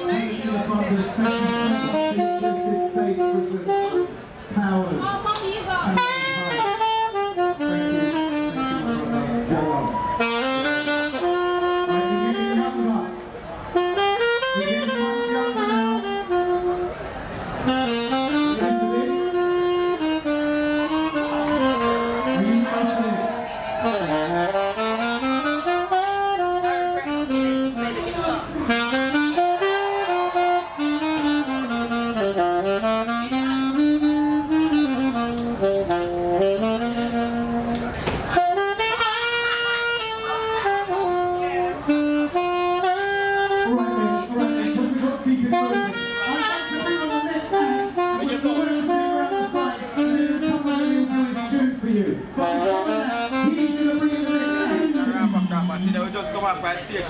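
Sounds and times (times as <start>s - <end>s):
lower saxophone line: 0.0s - 57.0s
saxophone melody: 0.0s - 57.0s.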